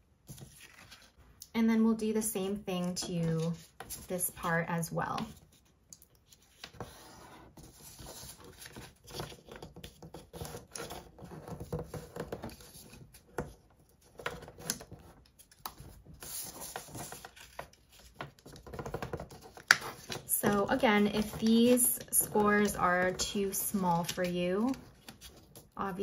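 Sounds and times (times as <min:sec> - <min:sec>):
paper rustling and crinkling: 0:00.2 - 0:01.3, 0:02.8 - 0:26.0.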